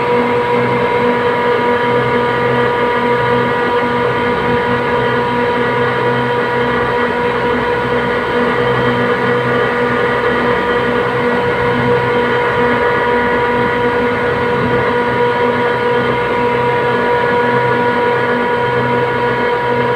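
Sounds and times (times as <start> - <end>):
machinery drone: 0.0 - 19.9.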